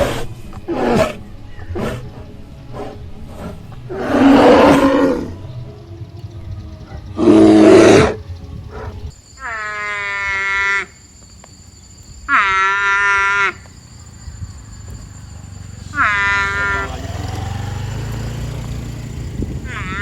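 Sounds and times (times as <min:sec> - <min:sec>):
animal calling: 0:00.0 - 0:11.0, 0:12.2 - 0:13.8, 0:14.9 - 0:18.2, 0:19.6 - 0:20.0.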